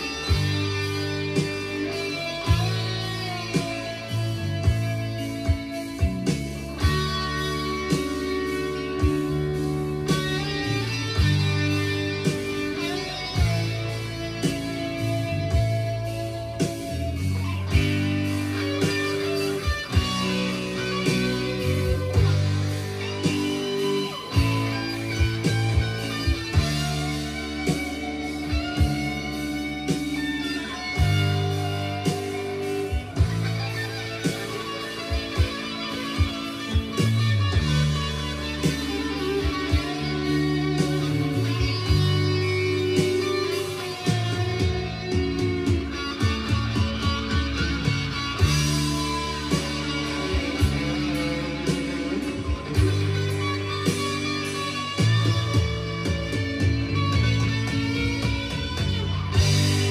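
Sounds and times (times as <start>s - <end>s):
electric guitar: 0.0s - 59.9s
rock music: 0.0s - 59.9s.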